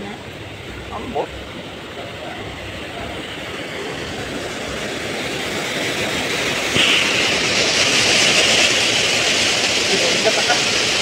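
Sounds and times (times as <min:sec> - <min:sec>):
water rushing through dam: 0:00.0 - 0:11.0.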